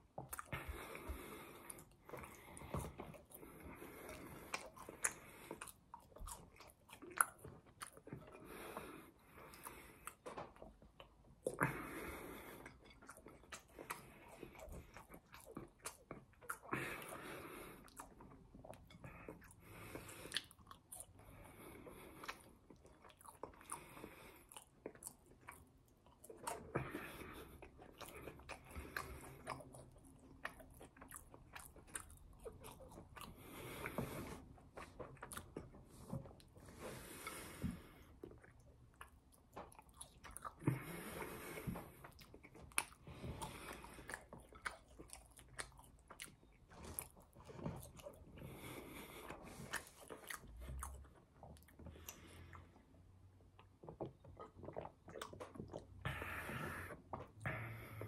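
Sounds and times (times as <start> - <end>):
chewing crunchy fries: 0.0 - 52.7, 53.4 - 58.0.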